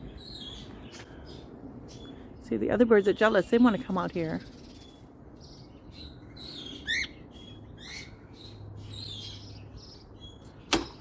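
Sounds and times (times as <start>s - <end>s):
pet birds chirping: 0.0s - 11.0s.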